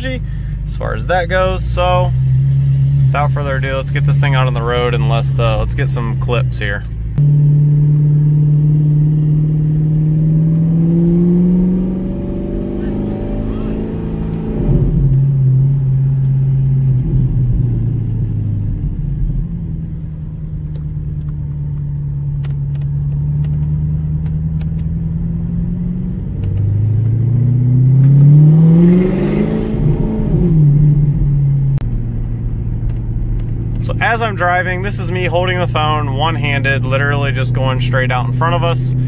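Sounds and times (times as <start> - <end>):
car engine from inside cabin: 0.0 - 39.0.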